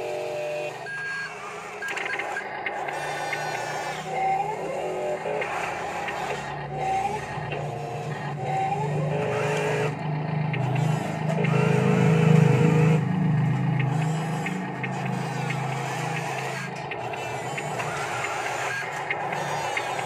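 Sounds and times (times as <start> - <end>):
toy motors and gears whirring: 0.0 - 20.0.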